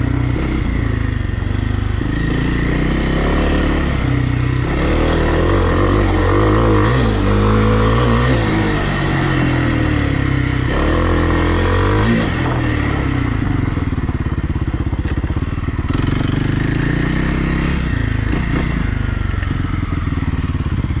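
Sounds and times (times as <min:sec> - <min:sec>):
dirt bike engine: 0:00.0 - 0:21.0.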